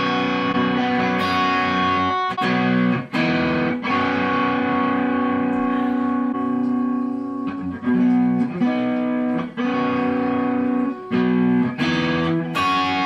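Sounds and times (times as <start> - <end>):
electric guitar strumming chords: 0.0 - 13.0.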